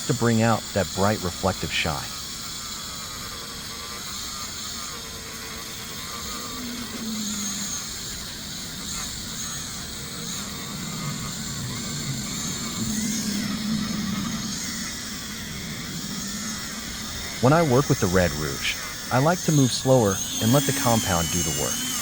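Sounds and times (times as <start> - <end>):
small power tool buffing: 0.0 - 22.0.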